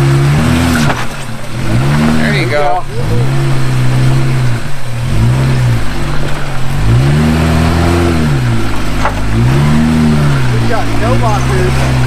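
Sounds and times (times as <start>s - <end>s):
car engine revving under load: 0.0s - 12.0s.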